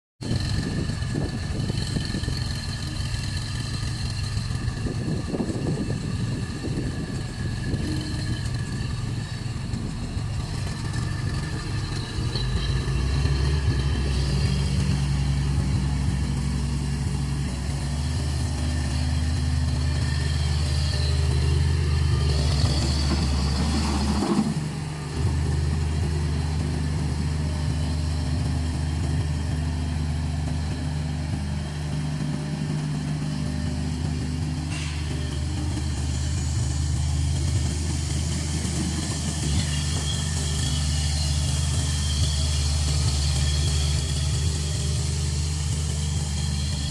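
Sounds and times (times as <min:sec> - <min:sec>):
track loader engine running: 0:00.2 - 0:46.9.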